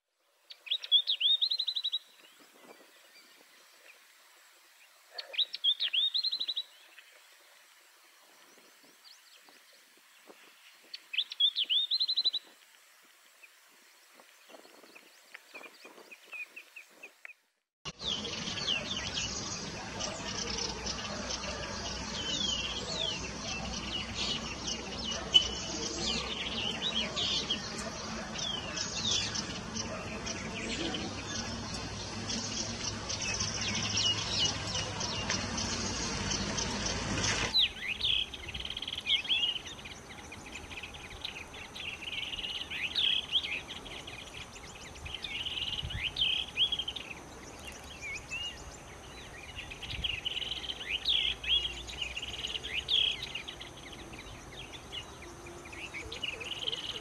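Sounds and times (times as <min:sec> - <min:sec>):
outdoor background hiss: 0:00.0 - 0:57.0
small birds chirping: 0:00.2 - 0:57.0.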